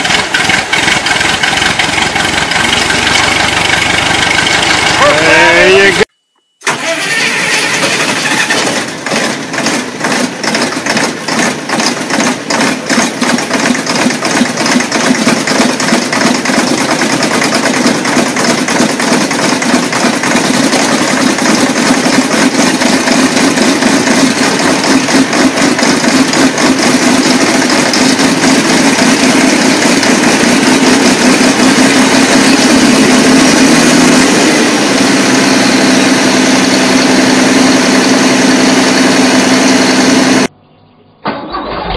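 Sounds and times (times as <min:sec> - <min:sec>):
engine running after cold start: 0:00.0 - 0:40.5, 0:41.2 - 0:41.9.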